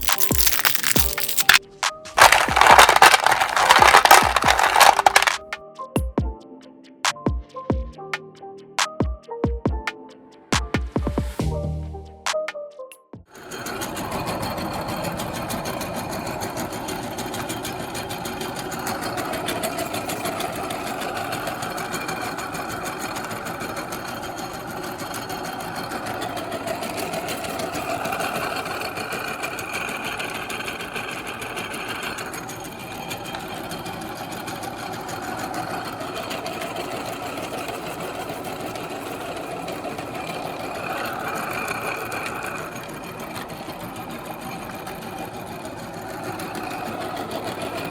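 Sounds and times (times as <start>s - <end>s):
meat grinder rattling: 0.0s - 1.6s, 2.2s - 5.4s, 13.4s - 47.9s.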